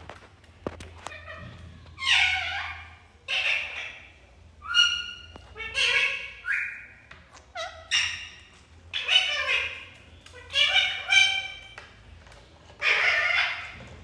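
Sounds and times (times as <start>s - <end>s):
parrot calling: 1.1s - 11.8s, 12.8s - 14.0s.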